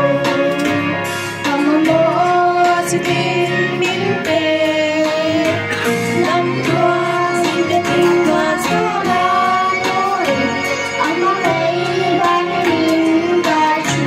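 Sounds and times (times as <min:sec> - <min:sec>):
girl singing into microphone: 0:00.0 - 0:14.0
instrumental music with steady beat: 0:00.0 - 0:14.0.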